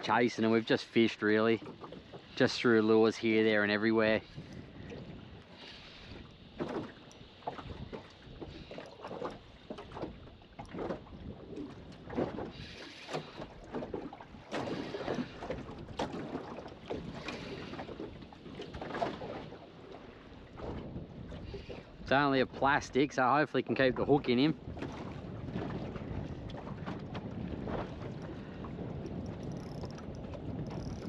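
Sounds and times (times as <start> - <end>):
water slapping against boat hull: 0.0 - 22.7, 23.8 - 31.0.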